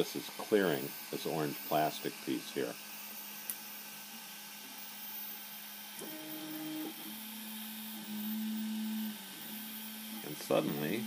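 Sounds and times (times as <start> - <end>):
steady whir: 0.0 - 11.0
stepper motors humming: 0.0 - 11.0.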